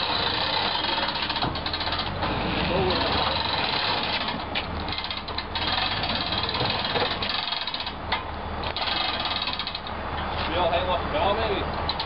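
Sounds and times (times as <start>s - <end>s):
engine running with rattling clatter: 0.0s - 12.0s.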